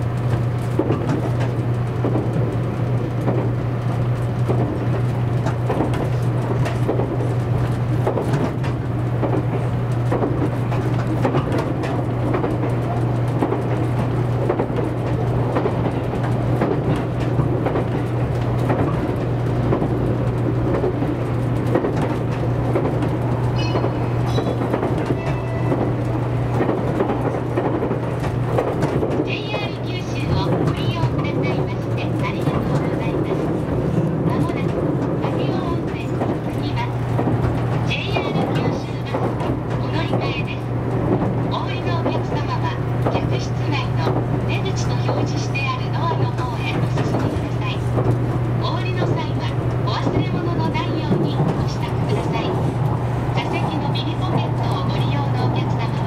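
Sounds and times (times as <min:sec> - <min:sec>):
clicks and knocks from track: 0:00.0 - 0:56.0
train cabin running hum: 0:00.0 - 0:56.0.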